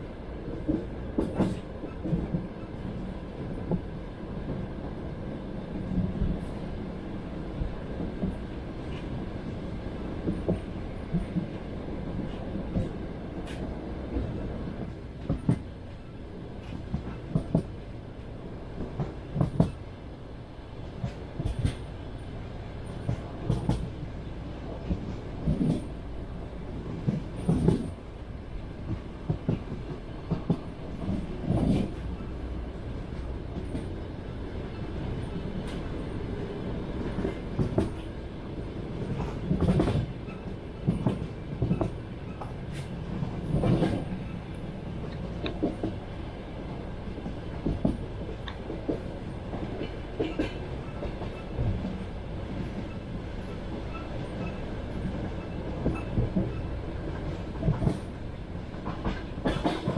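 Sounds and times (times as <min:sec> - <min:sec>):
train wheels clattering on rails: 0:00.0 - 0:05.0, 0:07.9 - 0:17.9, 0:18.7 - 0:19.9, 0:20.8 - 0:59.9
low train rumble: 0:00.0 - 0:59.9.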